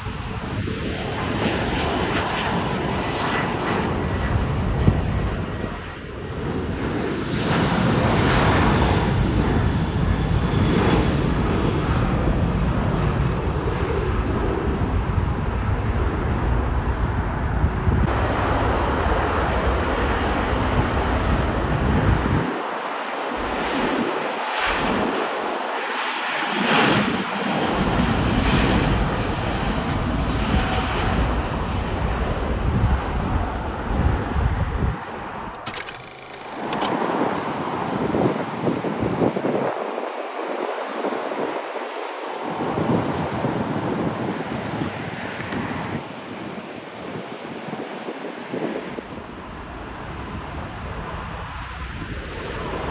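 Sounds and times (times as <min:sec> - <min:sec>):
jet aircraft engine roar: 0:00.0 - 0:52.9.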